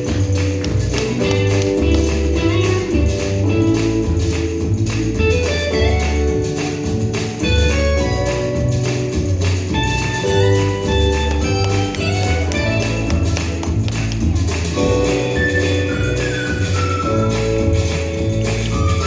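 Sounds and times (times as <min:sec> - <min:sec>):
bass line: 0:00.0 - 0:19.0
plucked guitar-like notes: 0:00.0 - 0:19.0
tambourine-like percussion: 0:00.0 - 0:19.0.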